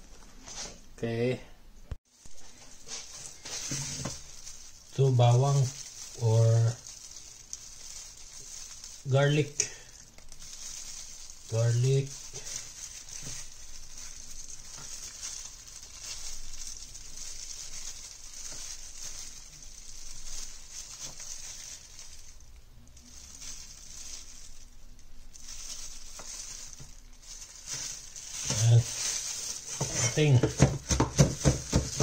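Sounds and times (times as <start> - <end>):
plastic glove crinkling: 2.0 - 32.0
papery garlic skins rustling: 2.1 - 32.0.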